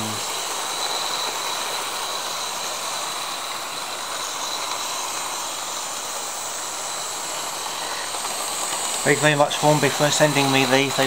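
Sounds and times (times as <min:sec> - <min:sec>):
faint high whine: 0:00.0 - 0:11.0
model trains whirring on track: 0:00.0 - 0:11.0.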